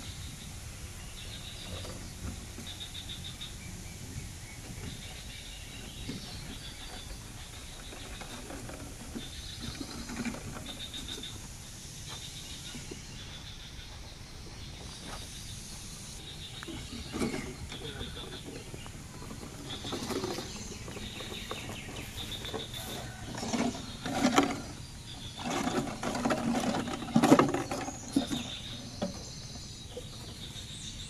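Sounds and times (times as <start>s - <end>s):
high insect hum: 0.0s - 31.0s.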